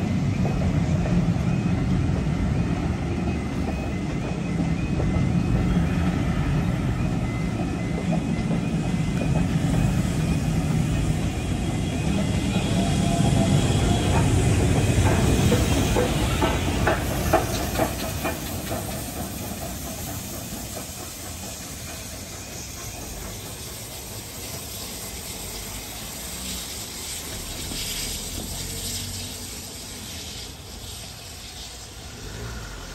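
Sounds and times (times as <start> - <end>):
steady hiss of steam: 0.0 - 32.9
train wheels clacking on rails: 0.0 - 32.9.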